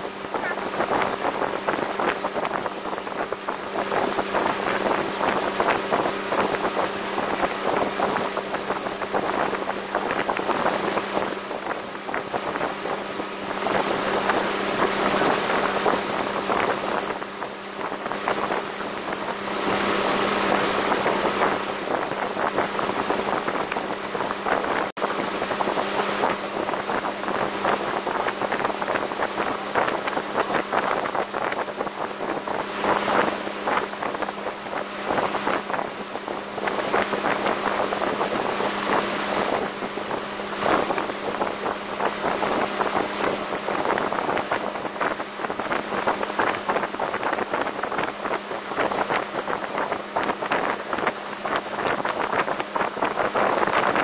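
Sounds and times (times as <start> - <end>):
motorboat engine drone: 0.0 - 54.0
wake water rushing: 0.0 - 54.0
wind buffeting microphone: 0.0 - 54.0.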